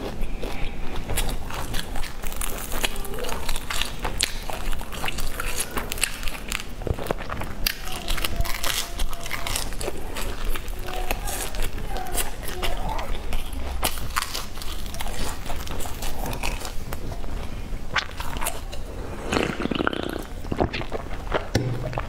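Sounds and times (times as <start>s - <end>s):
crisp crust crunching while eating: 0.0s - 22.0s.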